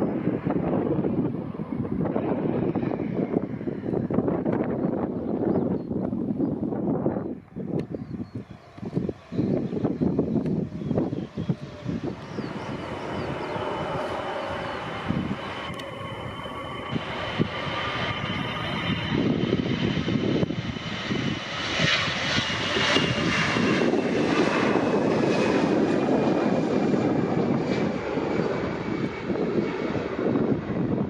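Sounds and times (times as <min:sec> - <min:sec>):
jet airliner engines passing: 0:00.0 - 0:31.0.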